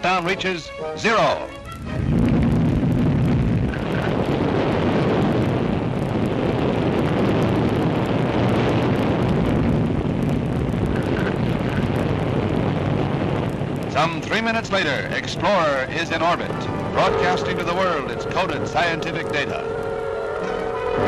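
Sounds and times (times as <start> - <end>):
rocket engine roaring: 0.0 - 21.0.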